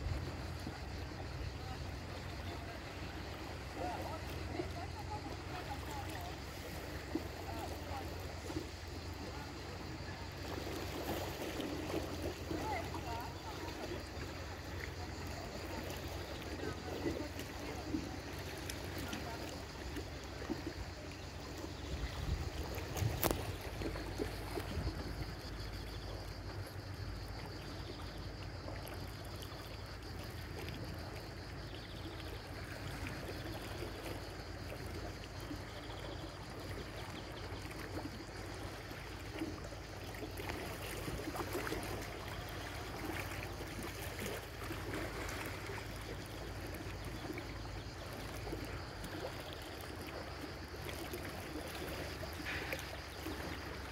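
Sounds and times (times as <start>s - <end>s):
water splashing and lapping: 0.0s - 53.9s.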